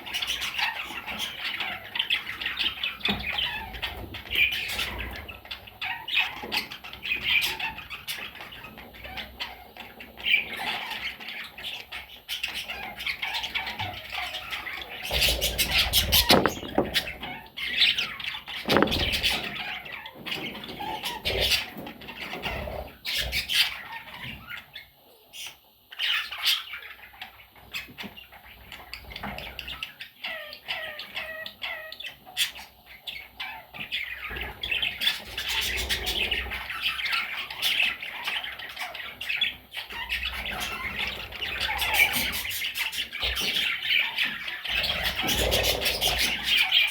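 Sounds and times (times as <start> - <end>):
budgerigars chattering and squawking: 0.0 - 46.9.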